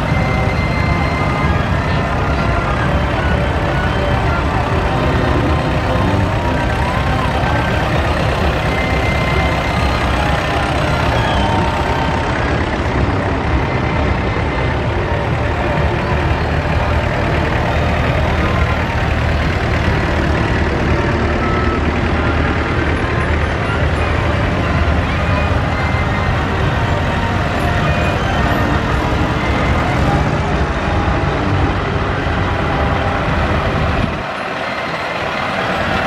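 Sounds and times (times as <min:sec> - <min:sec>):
tractor engines running: 0:00.0 - 0:36.0.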